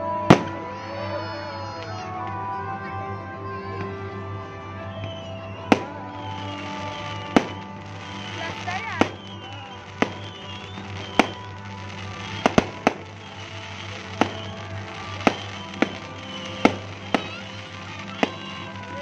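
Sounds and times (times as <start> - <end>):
music playing: 0.0 - 19.0
fireworks exploding: 0.1 - 2.4, 3.6 - 19.0.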